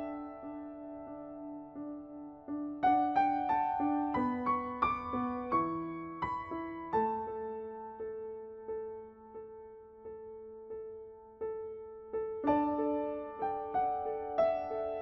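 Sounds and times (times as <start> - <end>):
soft piano melody: 0.0 - 15.0.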